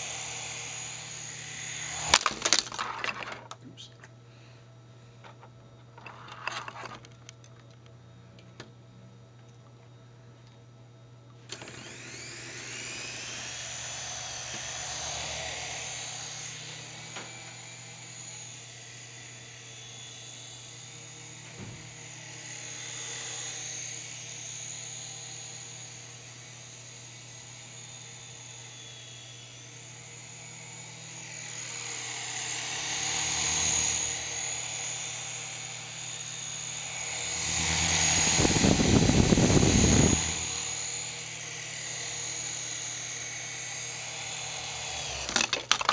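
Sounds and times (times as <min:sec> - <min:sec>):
toy helicopter rotors whirring: 0:00.0 - 0:03.5, 0:11.5 - 0:45.9.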